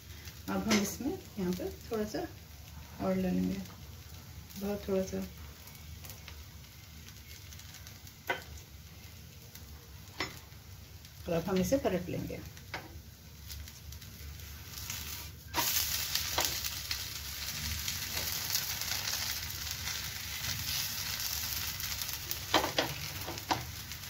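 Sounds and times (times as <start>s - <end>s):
batter sizzling on a hot pan: 0.0s - 24.0s.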